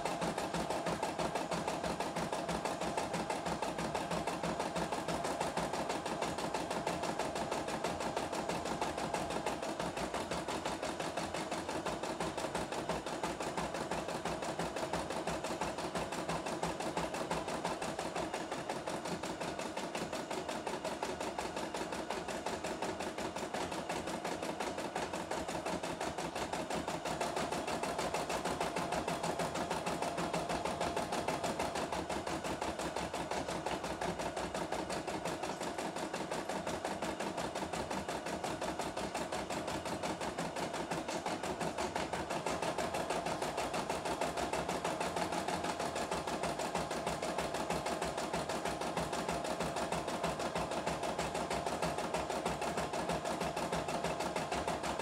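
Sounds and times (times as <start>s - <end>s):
embroidery machine stitching: 0.0s - 55.0s.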